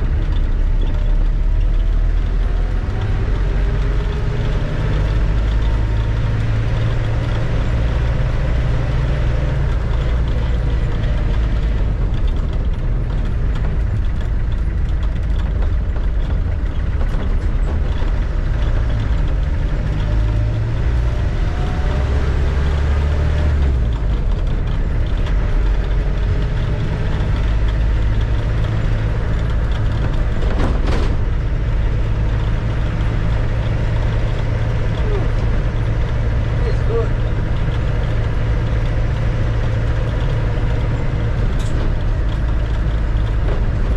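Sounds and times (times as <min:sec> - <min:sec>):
car engine running while driving: 0:00.0 - 0:43.9.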